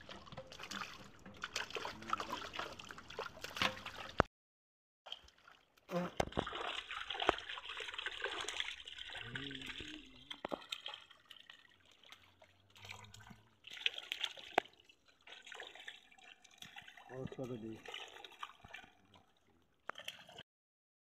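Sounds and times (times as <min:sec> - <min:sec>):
fish thrashing water splashing: 0:00.0 - 0:04.3, 0:05.1 - 0:20.4.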